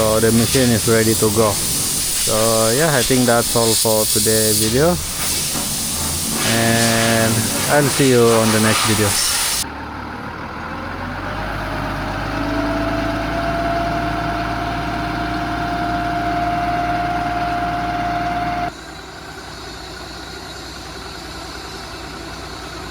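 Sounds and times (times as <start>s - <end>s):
heavy machine engine running: 0.0s - 22.9s.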